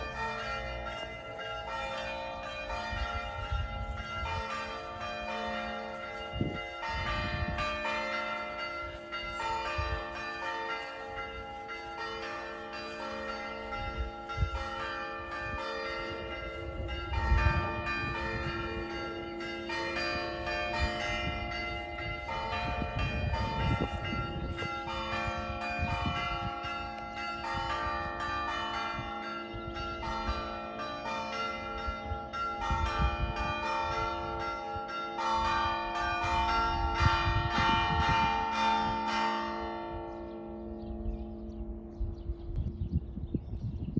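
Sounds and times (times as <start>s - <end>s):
church bells ringing: 0.0s - 42.4s.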